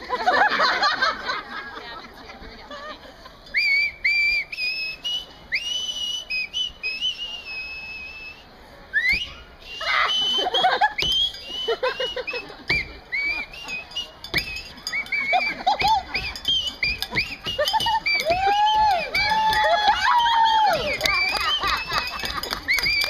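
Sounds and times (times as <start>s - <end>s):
voices: 0.0s - 23.0s
high whistling: 3.5s - 23.0s.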